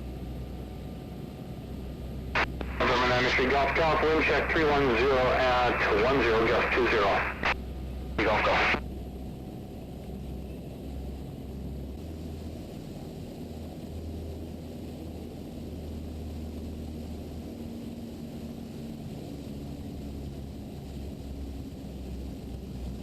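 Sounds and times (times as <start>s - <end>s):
airplane engine droning in cabin: 0.0s - 23.0s.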